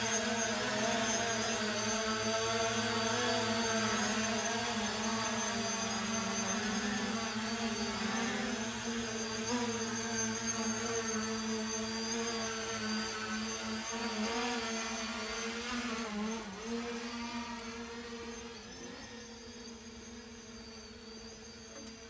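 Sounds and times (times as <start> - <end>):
drone rotors humming: 0.0 - 22.0.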